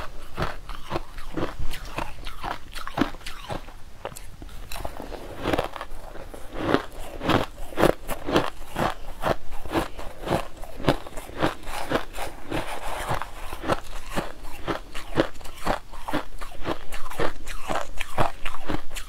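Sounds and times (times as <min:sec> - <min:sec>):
crushed ice being chewed: 0:00.0 - 0:19.0.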